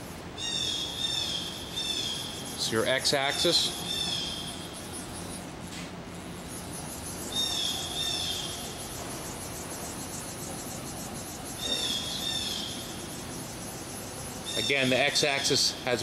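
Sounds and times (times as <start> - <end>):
low machine hum: 0.0 - 16.0
machine axis drive whine: 0.0 - 16.0.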